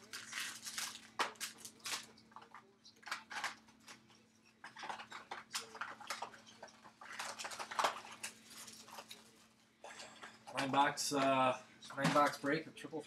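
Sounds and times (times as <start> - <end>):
paper and foil wrappers crinkling: 0.0 - 11.4.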